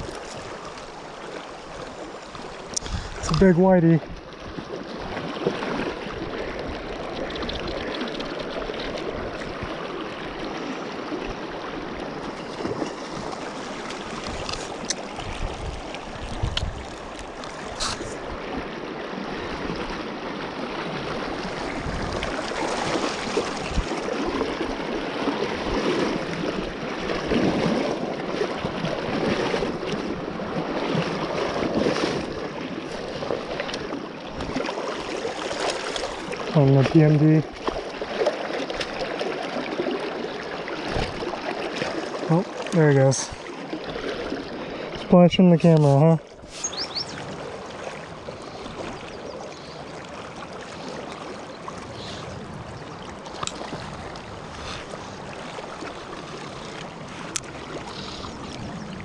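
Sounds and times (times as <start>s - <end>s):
river current rushing: 0.0s - 59.0s
water splashing: 0.0s - 59.0s.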